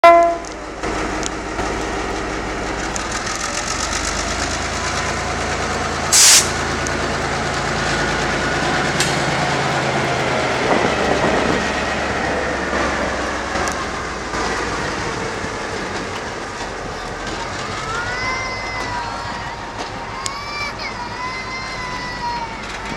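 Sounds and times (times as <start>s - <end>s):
locomotive engine hum: 0.0s - 22.9s
loud burst of noise: 0.0s - 22.9s
rail clatter: 0.0s - 22.9s.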